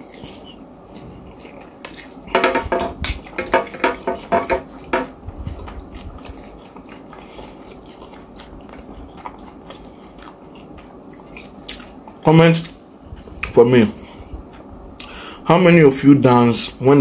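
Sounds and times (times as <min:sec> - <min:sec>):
man chewing: 0:00.0 - 0:15.3.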